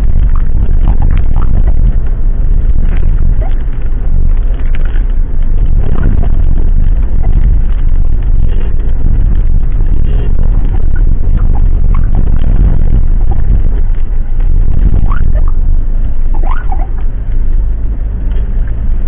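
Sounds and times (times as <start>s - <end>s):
vehicle engine road and wind rumble: 0.0s - 19.0s.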